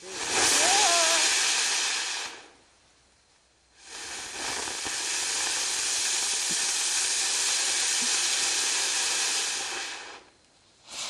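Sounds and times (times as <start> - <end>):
firework fountain hissing: 0.0 - 2.7, 3.7 - 11.0.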